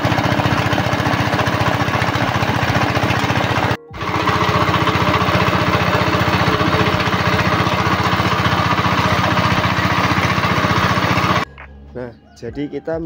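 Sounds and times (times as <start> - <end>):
diesel engine running: 0.0 - 11.8.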